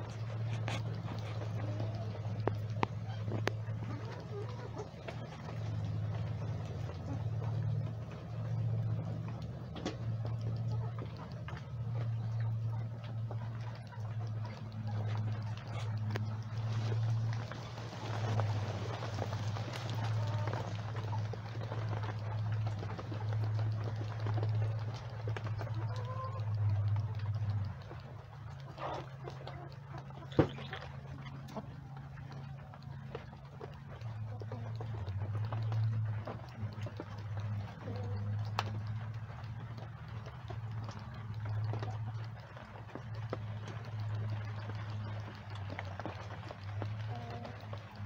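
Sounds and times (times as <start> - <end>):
chickens clucking: 0.0 - 48.0
low motor hum: 0.0 - 48.0
rain pattering: 0.0 - 48.0.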